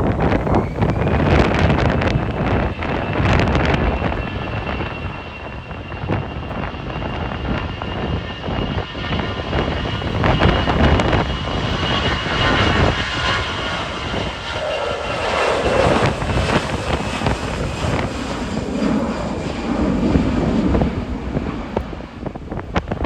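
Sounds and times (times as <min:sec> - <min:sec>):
jet engines passing by: 0:00.0 - 0:23.0.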